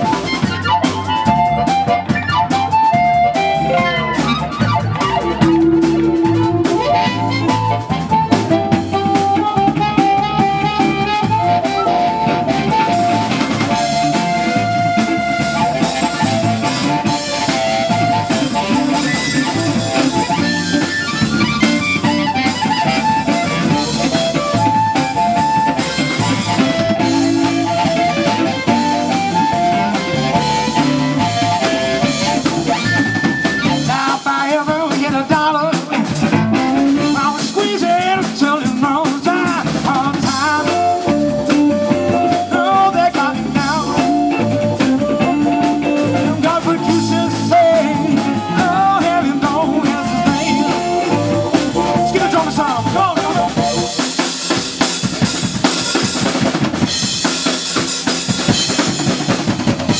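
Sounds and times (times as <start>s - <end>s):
harmonica bending notes: 0.0s - 34.1s, 39.9s - 56.2s
blues band playing live: 0.0s - 59.9s.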